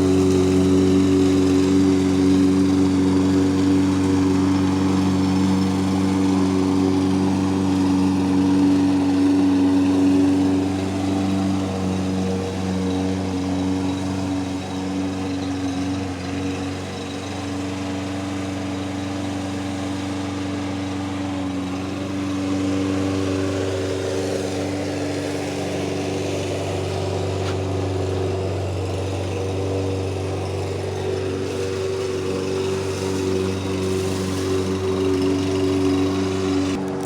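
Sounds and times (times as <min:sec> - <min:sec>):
engine droning hum: 0:00.0 - 0:37.0.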